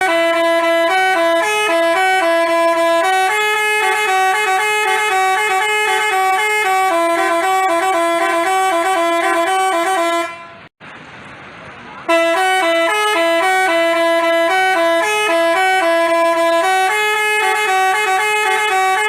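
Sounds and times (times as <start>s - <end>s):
multi-trumpet bus horn playing tune: 0.0s - 10.7s, 12.1s - 19.0s.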